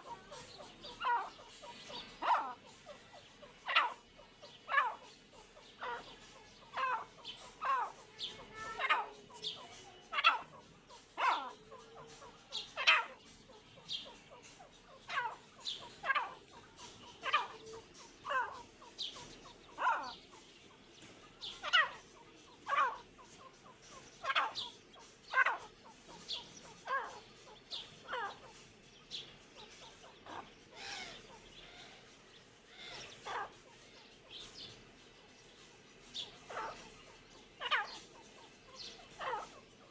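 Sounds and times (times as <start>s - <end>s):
partridges calling: 0.0s - 39.9s.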